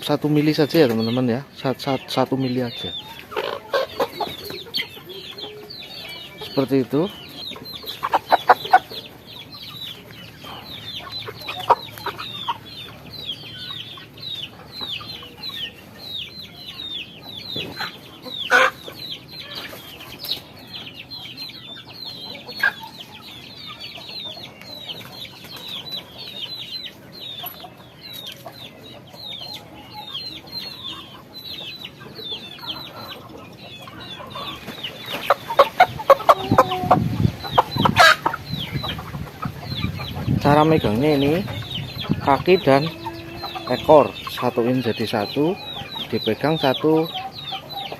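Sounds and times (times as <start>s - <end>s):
chickens peeping: 0.0s - 47.9s
chickens squawking: 0.0s - 47.9s.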